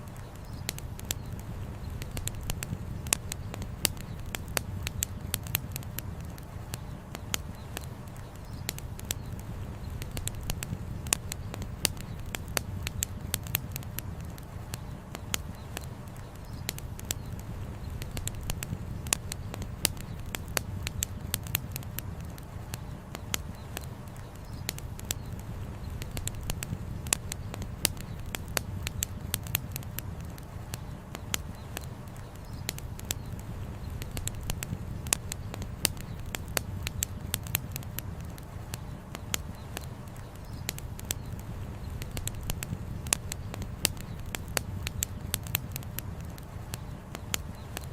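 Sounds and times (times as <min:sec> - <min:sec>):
campfire crackling: 0:00.0 - 0:47.9
low fire rumble: 0:00.0 - 0:47.9.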